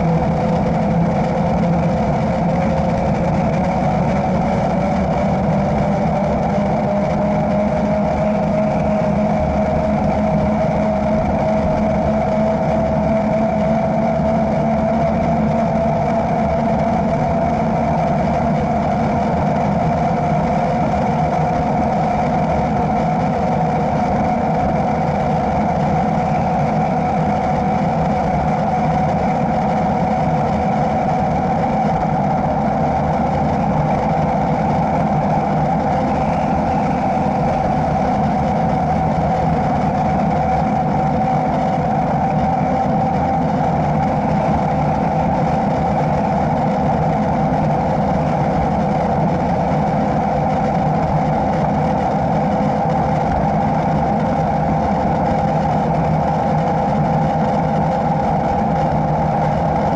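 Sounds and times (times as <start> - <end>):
bike tyres humming on asphalt: 0.0 - 59.9.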